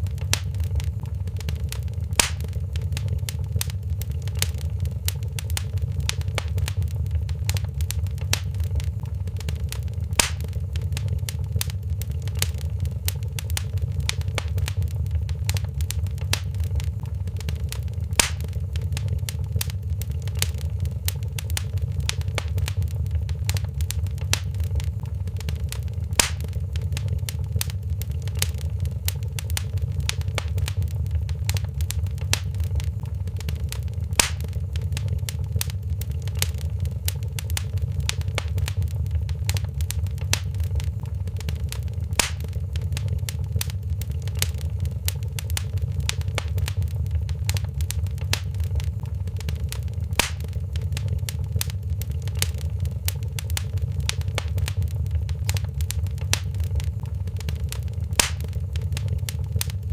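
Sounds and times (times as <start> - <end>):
loud fire pops: 0.0 - 59.9
low fire rumble: 0.0 - 59.9
wood fire crackling: 0.0 - 59.9.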